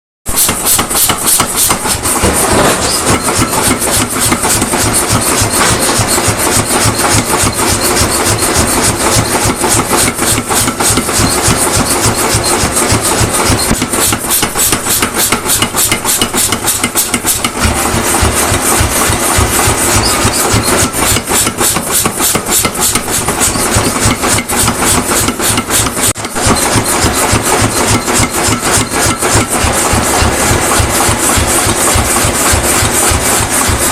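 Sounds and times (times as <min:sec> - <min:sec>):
power hammer on steel: 0:00.3 - 0:33.9
motor running: 0:01.3 - 0:33.9.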